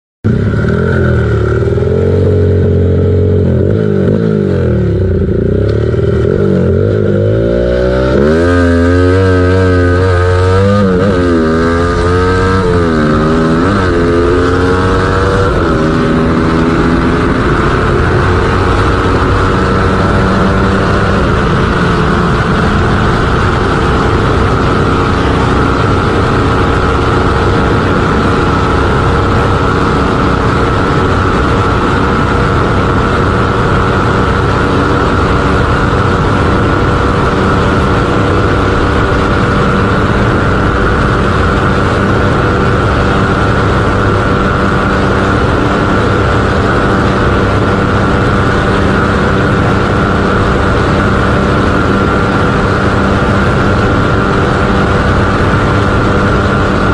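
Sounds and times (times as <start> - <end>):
motorcycle engine accelerating: 0.2 - 56.9.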